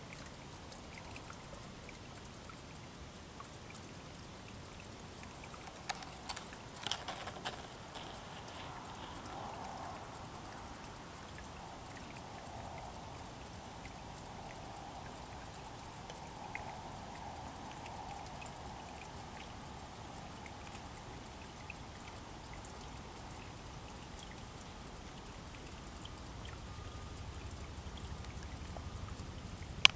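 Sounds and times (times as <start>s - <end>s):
stream water trickling: 0.0s - 29.9s
water drips and splashes: 0.0s - 29.9s.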